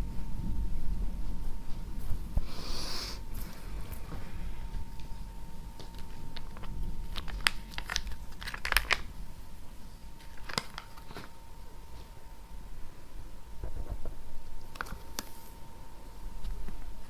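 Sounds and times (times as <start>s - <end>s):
faint steady hum: 0.0s - 17.0s
crinkling handling sounds: 1.2s - 12.8s, 13.4s - 17.0s.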